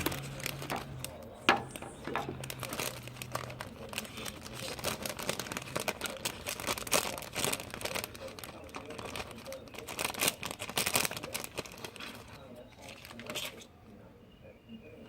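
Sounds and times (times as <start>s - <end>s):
packaging crackling and rustling: 0.0s - 13.7s.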